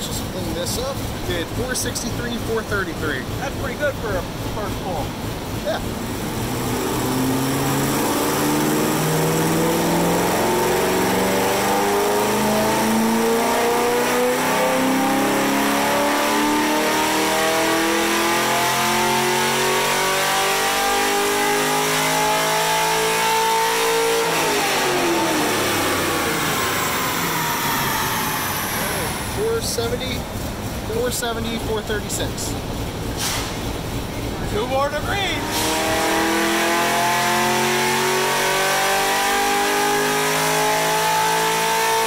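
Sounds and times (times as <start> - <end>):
car engine at full throttle: 0.0 - 42.0
dyno rollers coasting: 0.0 - 42.0.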